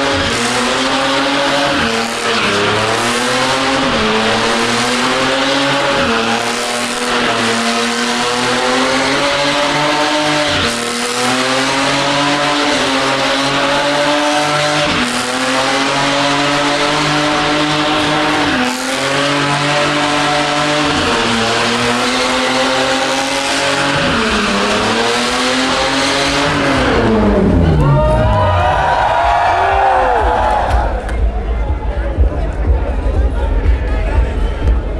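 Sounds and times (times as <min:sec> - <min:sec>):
car engine revving high: 0:00.0 - 0:34.9.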